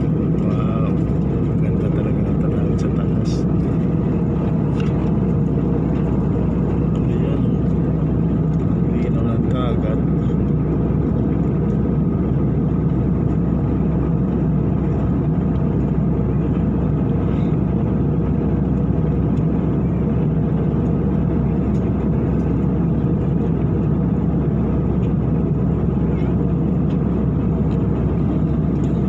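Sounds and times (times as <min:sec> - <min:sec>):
airliner cabin engine drone: 0:00.0 - 0:29.0.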